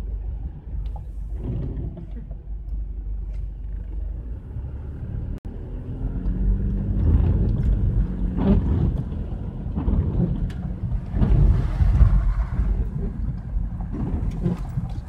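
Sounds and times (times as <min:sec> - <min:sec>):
road rumble: 0:00.0 - 0:15.0.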